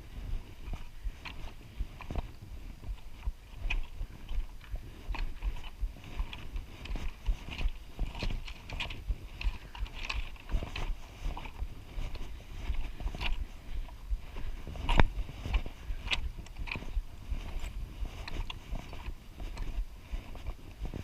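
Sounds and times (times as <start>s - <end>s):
footsteps on rocky trail: 0.0s - 21.0s.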